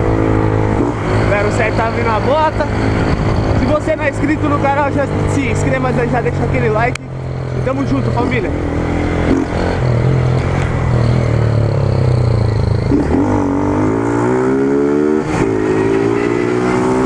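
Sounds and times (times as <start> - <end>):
motorcycle engine without muffler: 0.0 - 17.0.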